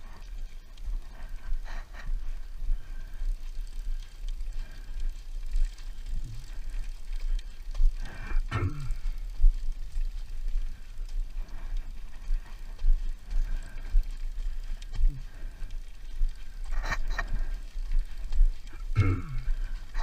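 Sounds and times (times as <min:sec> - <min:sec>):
dirt bike engine: 0:00.0 - 0:20.0
wind rumble on microphone: 0:00.0 - 0:20.0.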